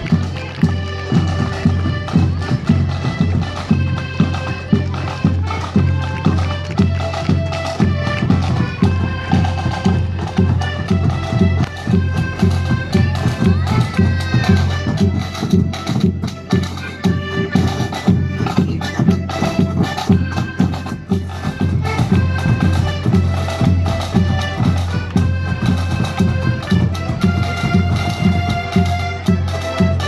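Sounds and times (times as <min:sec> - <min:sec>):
accordion band playing: 0:00.0 - 0:30.0.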